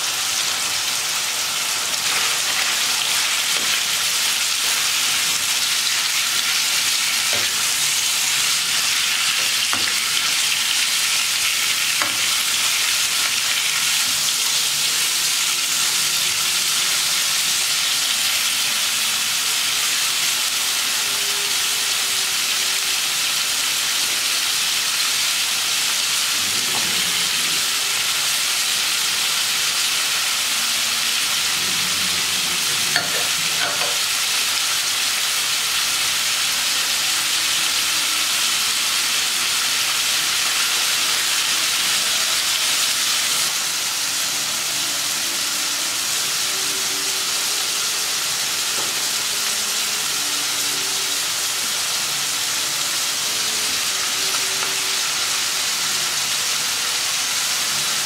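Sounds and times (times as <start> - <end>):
liver and onion sizzling in skillet: 0.0 - 58.0.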